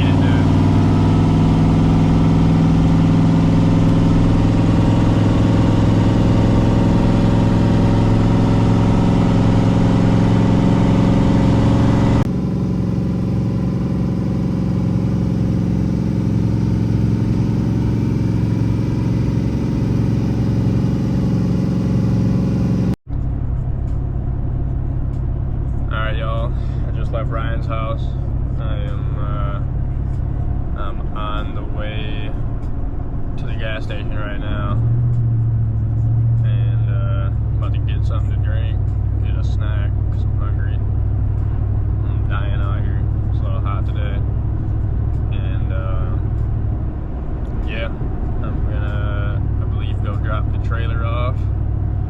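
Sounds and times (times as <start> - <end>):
car engine running: 0.0 - 52.0
road noise: 0.0 - 52.0.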